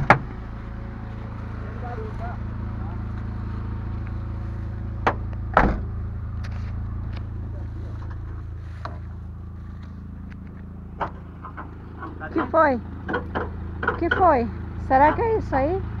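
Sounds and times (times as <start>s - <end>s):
van engine idling: 0.0s - 16.0s.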